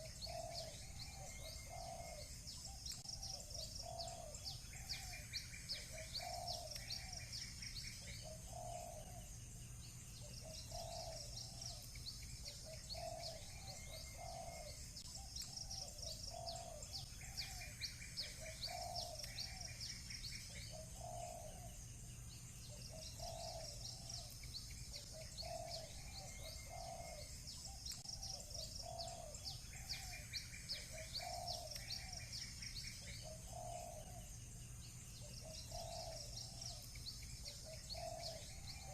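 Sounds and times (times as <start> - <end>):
doves cooing: 0.0 - 9.4, 10.2 - 21.8, 22.7 - 34.4, 35.2 - 38.9
small birds chirping: 0.0 - 38.9.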